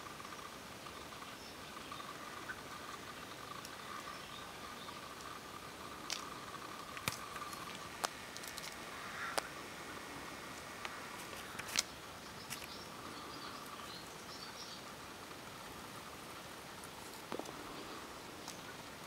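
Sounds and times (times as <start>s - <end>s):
faint bird chirps: 0.0s - 8.0s, 8.8s - 19.0s
steady background hiss: 0.0s - 19.0s.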